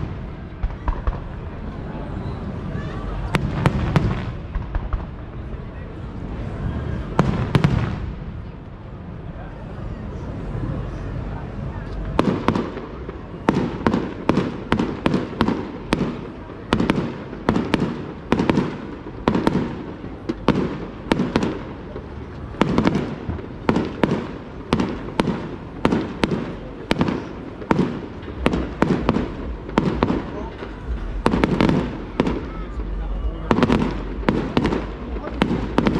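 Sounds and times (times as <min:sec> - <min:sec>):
fireworks bursting: 0:00.0 - 0:06.3, 0:07.0 - 0:08.8, 0:11.9 - 0:35.9.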